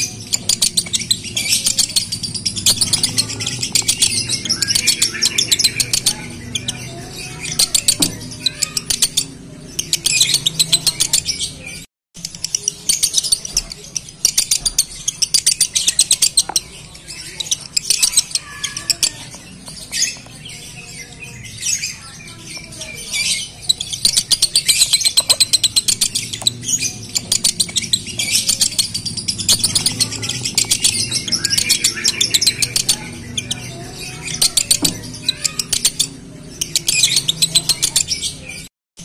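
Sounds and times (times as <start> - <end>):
lovebird chirping chatter: 0.0 - 38.7.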